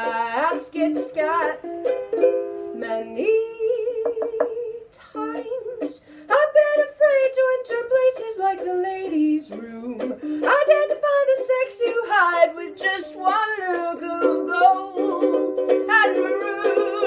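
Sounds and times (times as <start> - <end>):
person singing: 0.0 - 1.7, 2.7 - 17.0.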